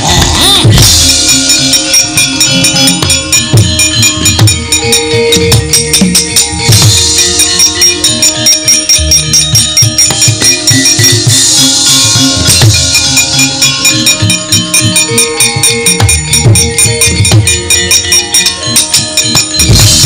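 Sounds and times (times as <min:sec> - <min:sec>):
hand drum strokes: 0:00.0 - 0:20.0
metallophone and gong notes: 0:00.0 - 0:20.0.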